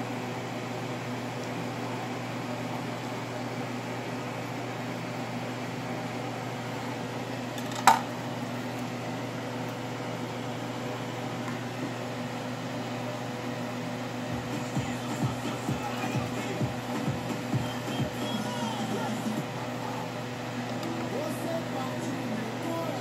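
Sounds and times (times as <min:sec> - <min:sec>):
fan motor hum: 0:00.0 - 0:23.0.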